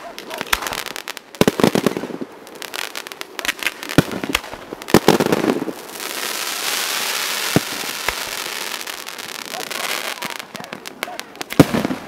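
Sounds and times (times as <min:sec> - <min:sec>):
fireworks bursting with bangs: 0:00.0 - 0:12.0
hissing crackle: 0:00.0 - 0:12.0
scattered crackles: 0:00.0 - 0:12.0.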